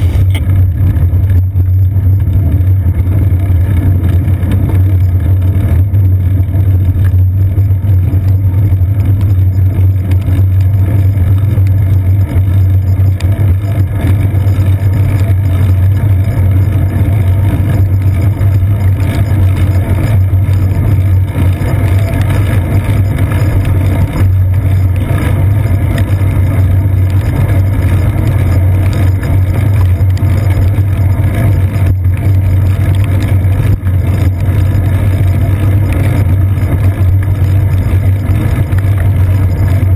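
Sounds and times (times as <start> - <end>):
bicycle rolling over wet pavement: 0.0 - 39.9.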